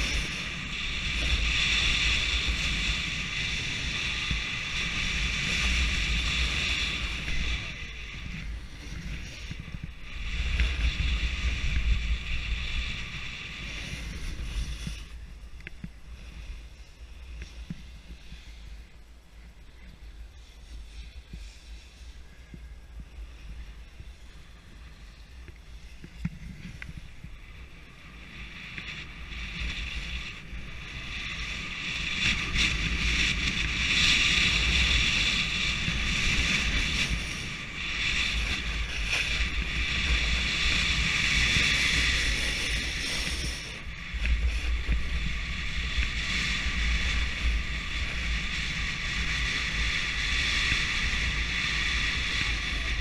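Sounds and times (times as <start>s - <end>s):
snowboard scraping over snow: 0.0s - 19.4s, 20.1s - 53.0s
wind rumbling on microphone: 0.0s - 53.0s.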